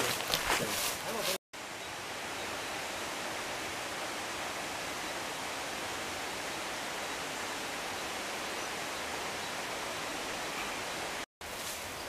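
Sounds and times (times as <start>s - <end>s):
forest background hiss: 0.0s - 12.0s.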